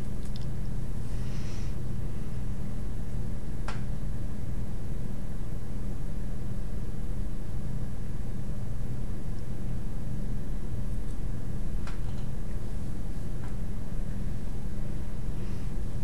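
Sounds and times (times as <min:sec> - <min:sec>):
low background hum and hiss: 0:00.0 - 0:16.0.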